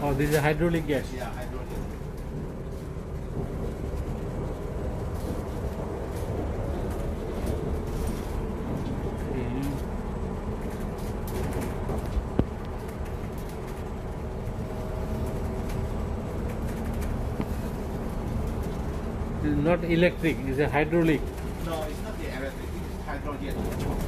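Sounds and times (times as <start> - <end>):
bus cabin rumble: 0.0 - 24.0.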